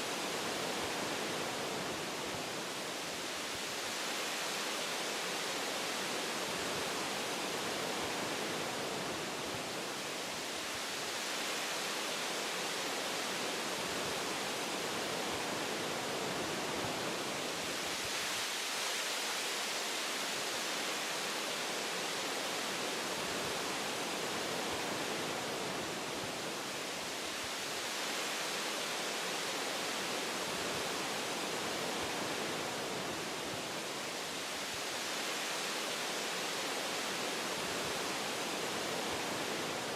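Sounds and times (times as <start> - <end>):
wind through forest branches: 0.0 - 39.9.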